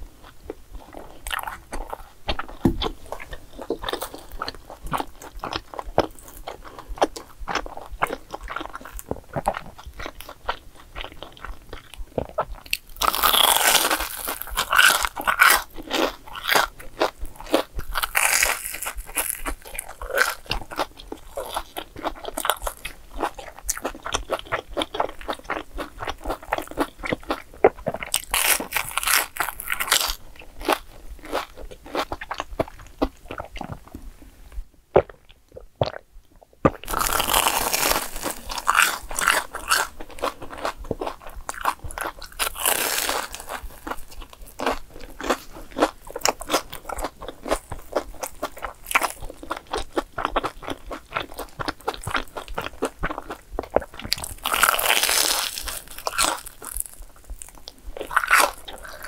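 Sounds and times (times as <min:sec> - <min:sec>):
crunchy food crunching: 0:00.2 - 0:34.3, 0:36.6 - 0:59.0
wet chewing clicks: 0:00.5 - 0:34.0, 0:34.9 - 0:59.0.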